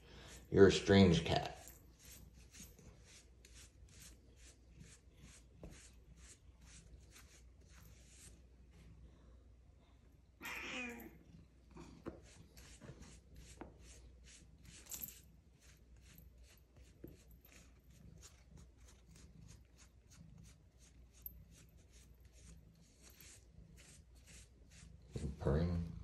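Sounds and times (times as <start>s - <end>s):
brush strokes through fur: 0.0s - 9.0s, 12.1s - 25.7s.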